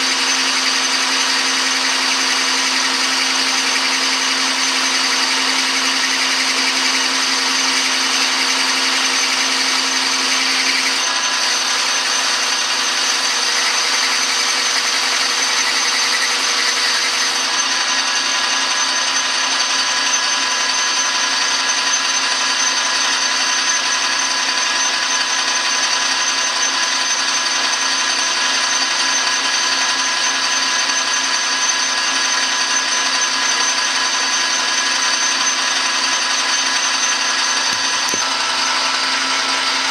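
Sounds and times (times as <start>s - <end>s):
metal lathe cutting whine: 0.0s - 39.9s.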